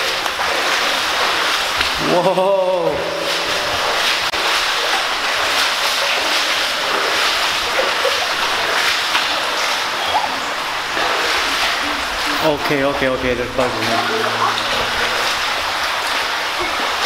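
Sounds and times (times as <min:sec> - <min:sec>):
water rushing through metal pipe: 0:00.0 - 0:17.0.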